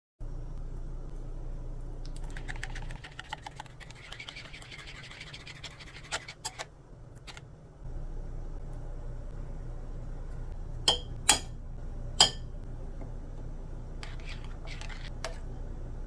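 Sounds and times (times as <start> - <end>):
low steady hum: 0.2 - 16.0.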